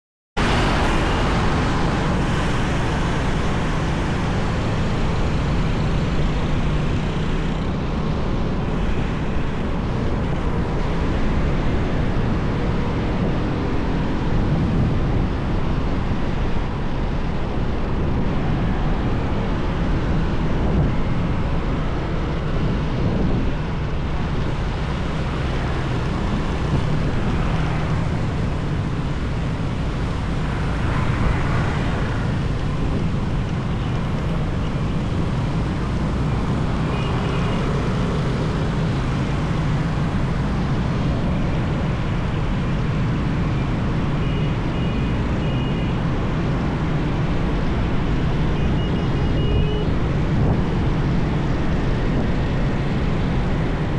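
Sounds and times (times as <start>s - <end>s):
surrounding traffic: 0.4s - 53.9s.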